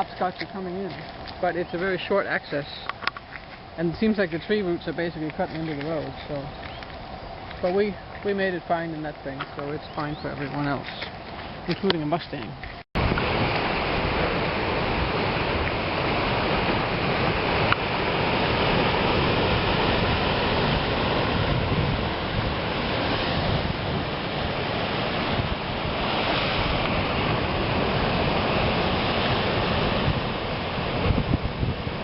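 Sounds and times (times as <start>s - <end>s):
ocean surf breaking on shore: 0.0s - 32.0s
wind buffeting microphone: 0.0s - 32.0s.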